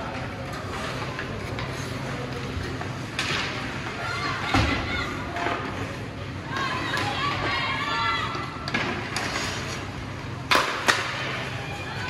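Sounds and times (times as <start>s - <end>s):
faint voices: 0.0s - 12.0s
skates scraping ice: 0.0s - 12.0s.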